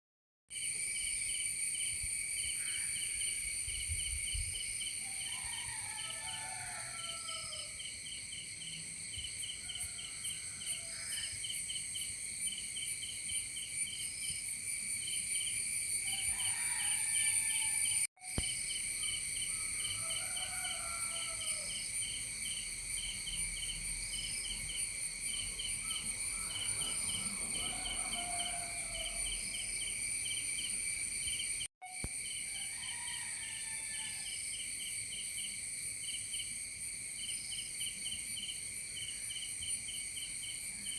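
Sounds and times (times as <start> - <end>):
insects chirping: 0.5 - 40.9.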